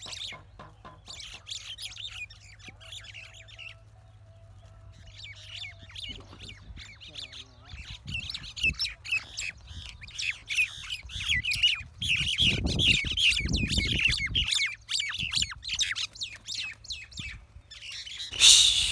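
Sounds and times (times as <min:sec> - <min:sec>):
birds squawking and chirping: 0:00.0 - 0:18.9.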